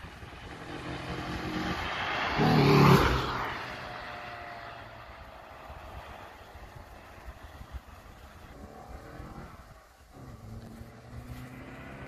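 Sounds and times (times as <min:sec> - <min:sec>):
car engine driving past: 0:00.0 - 0:12.0
tyre noise: 0:00.0 - 0:12.0.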